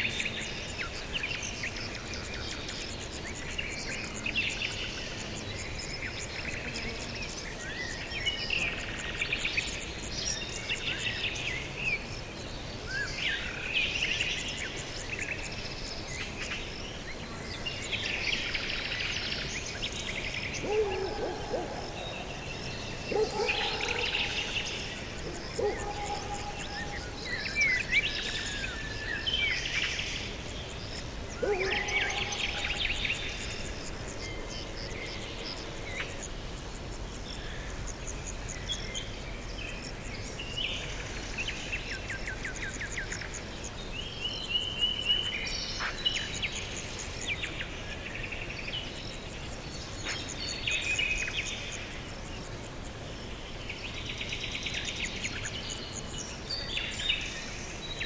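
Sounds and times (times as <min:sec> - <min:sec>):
songbirds singing and chirping: 0:00.0 - 0:58.0
steady low hiss: 0:00.0 - 0:58.0.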